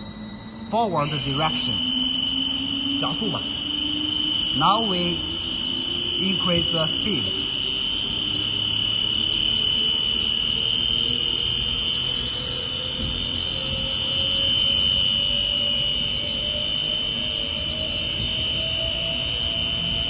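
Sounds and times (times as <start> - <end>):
mixer drive whine climbing: 0.0 - 20.0
steady high-pitched whine: 0.0 - 20.0.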